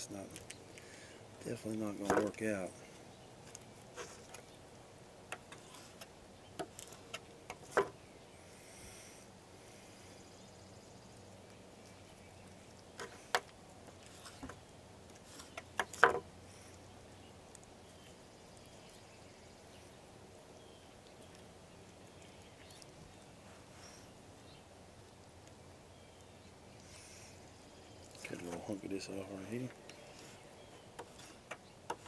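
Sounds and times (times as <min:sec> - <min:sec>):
faint background noise: 0:00.0 - 0:32.0.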